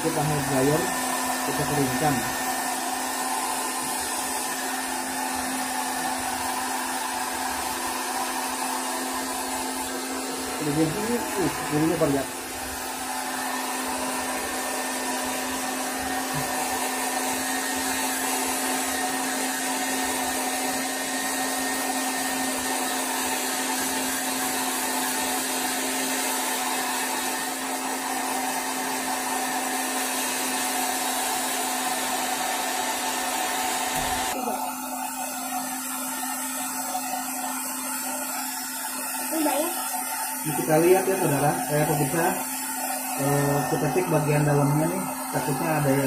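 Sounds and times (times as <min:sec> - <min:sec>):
hair dryer running: 0:00.0 - 0:46.0.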